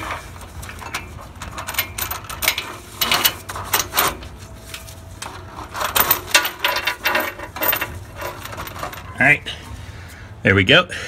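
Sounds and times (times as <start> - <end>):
metal hose scraping engine parts: 0.0 - 10.3.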